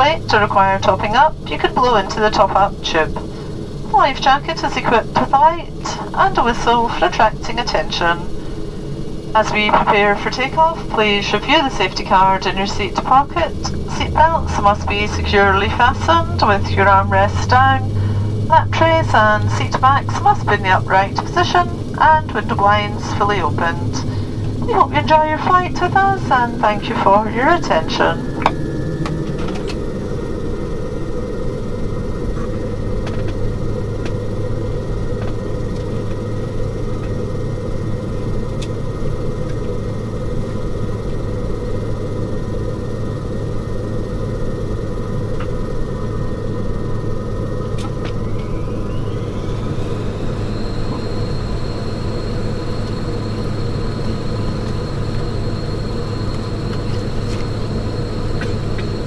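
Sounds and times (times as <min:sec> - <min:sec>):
high engine whine: 0:00.0 - 0:59.0
turboprop engine drone: 0:00.0 - 0:59.0.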